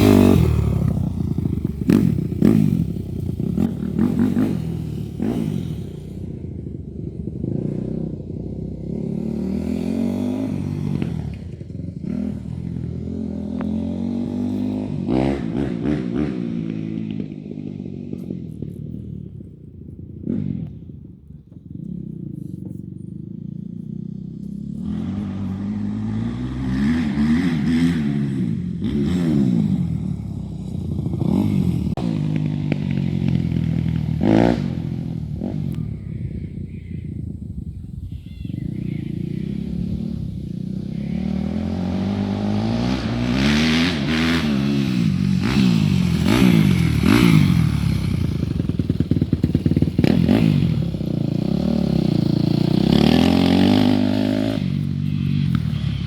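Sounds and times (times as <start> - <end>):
motocross bike engine revving: 0.0 - 18.2, 23.3 - 56.0.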